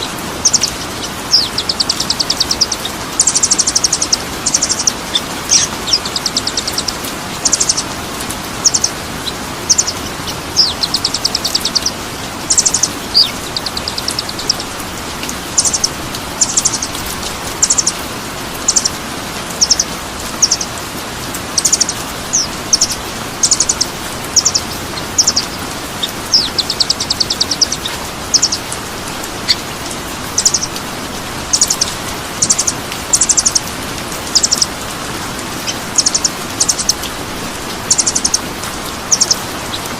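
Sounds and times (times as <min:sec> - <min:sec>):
rapid rattling bird trills: 0:00.0 - 0:39.9.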